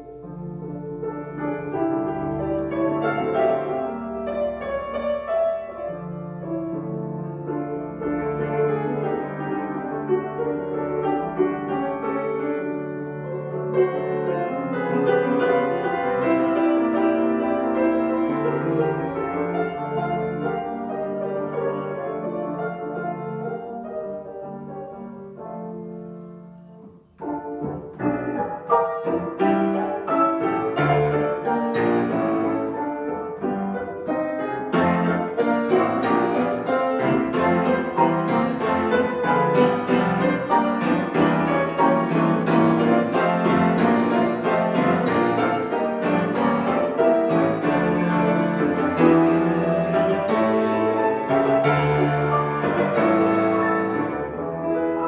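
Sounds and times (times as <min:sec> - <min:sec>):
solo grand piano piece: 0:00.0 - 0:55.0.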